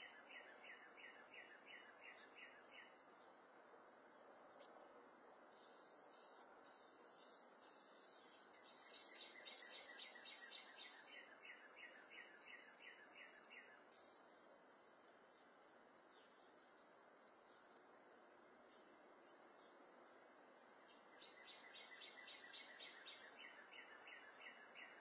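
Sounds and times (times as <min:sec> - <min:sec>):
bird song: 0:00.0 - 0:04.8, 0:05.5 - 0:25.0.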